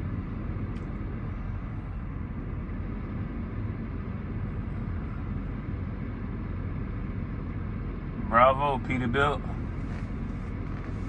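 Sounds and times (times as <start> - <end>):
diesel truck engines idling: 0.0 - 11.0.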